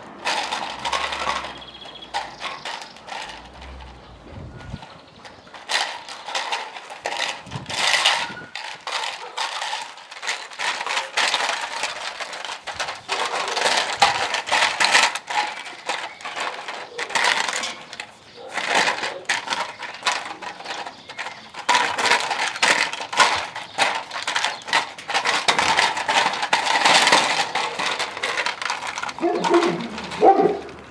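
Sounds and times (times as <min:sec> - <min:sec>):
plastic bottles crinkling and rattling: 0:00.0 - 0:30.9
loose pieces rattling inside bottle: 0:00.2 - 0:30.9.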